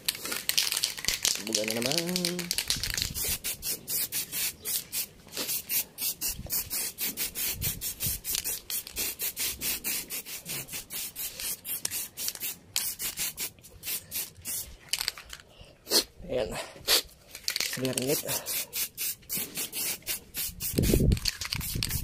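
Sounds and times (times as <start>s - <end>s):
spray paint can hissing: 0.0s - 15.2s, 16.9s - 22.0s.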